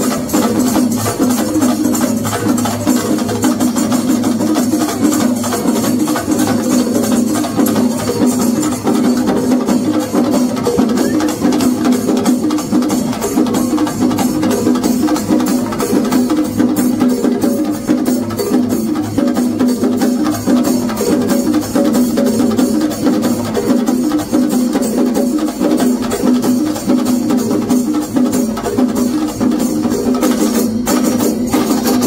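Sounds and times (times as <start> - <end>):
drums beaten rapidly with sticks: 0.0 - 32.0
hand cymbals clashing: 0.0 - 32.0.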